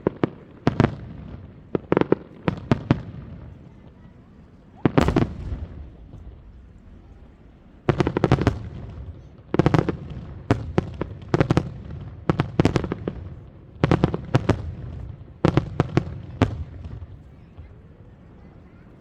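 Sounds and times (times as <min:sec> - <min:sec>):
fireworks bursting: 0:00.0 - 0:17.2.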